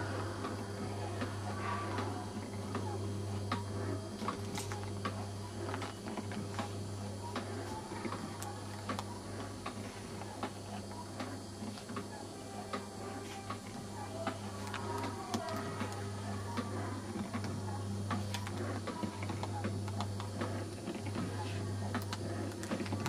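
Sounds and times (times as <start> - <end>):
low electrical motor hum: 0.0 - 23.0.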